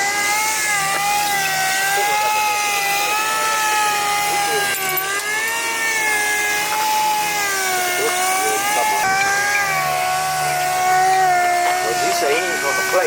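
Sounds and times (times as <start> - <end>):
machine motor whine: 0.0 - 13.0.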